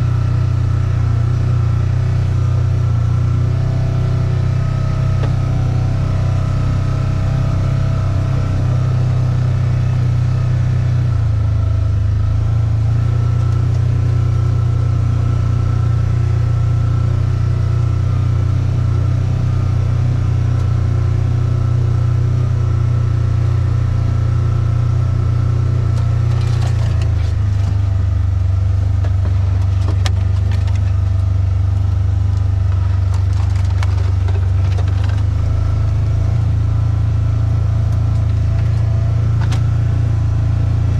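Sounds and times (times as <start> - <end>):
car engine and road noise: 0.0 - 40.9.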